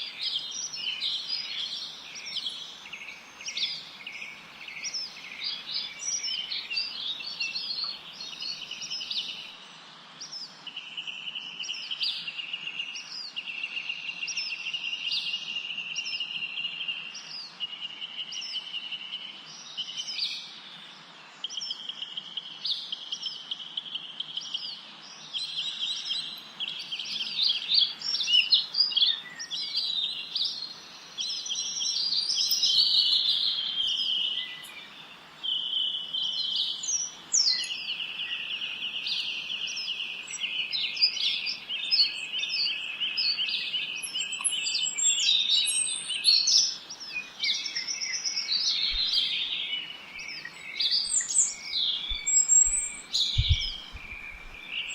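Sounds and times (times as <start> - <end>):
background hiss: 0.0 - 54.9
songbirds singing trills: 0.0 - 54.9.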